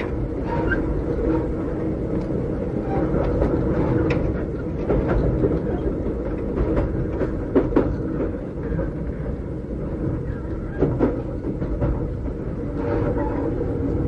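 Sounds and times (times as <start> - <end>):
train running noise inside carriage: 0.0 - 14.0.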